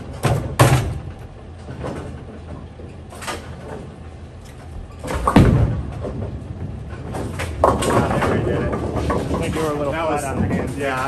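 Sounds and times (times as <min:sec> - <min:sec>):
bowling ball thud and rolling: 0:00.0 - 0:04.0, 0:04.7 - 0:10.8
low rumble of bowling alley: 0:00.0 - 0:11.0.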